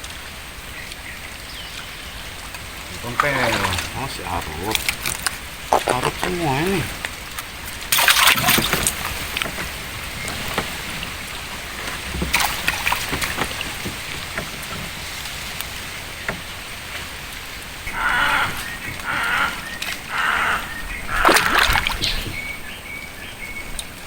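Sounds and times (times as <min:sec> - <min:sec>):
water sloshing and splashing: 0:02.2 - 0:22.7.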